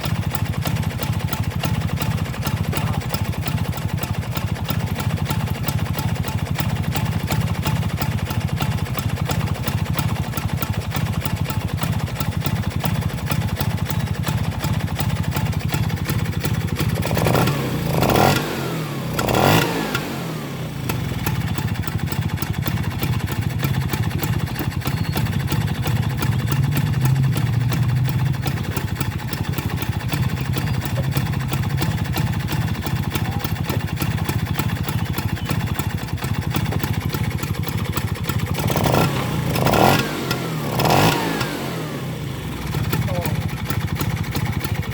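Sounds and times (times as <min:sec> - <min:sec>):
scooter engine idling and revving: 0:00.0 - 0:44.9.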